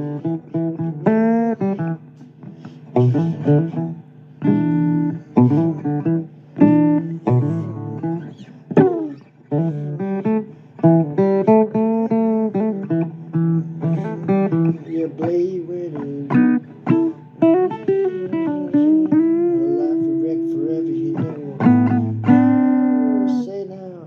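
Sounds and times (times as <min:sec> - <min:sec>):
blues guitar playing: 0:00.0 - 0:24.0
guitar slide: 0:00.0 - 0:24.0.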